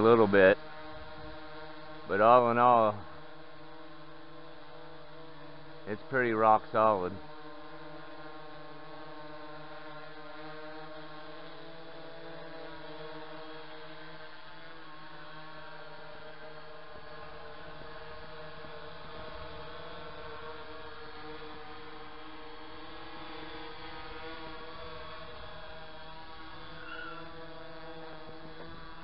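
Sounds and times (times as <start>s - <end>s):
drone propellers humming: 0.0s - 29.0s.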